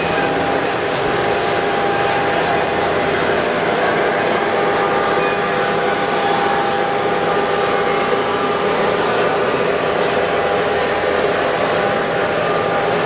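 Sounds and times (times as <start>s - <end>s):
model trains rolling: 0.0s - 13.0s.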